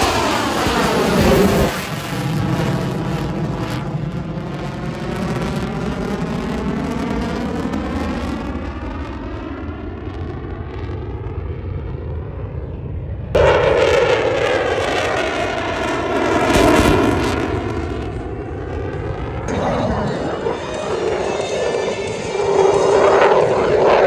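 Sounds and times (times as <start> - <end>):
airplane engine roar: 0.0 - 24.0.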